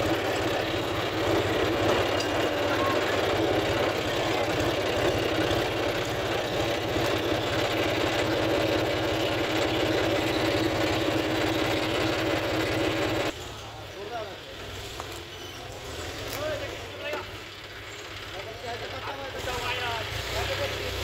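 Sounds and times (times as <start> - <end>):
tractor diesel engine running: 0.0 - 13.4, 15.7 - 21.0.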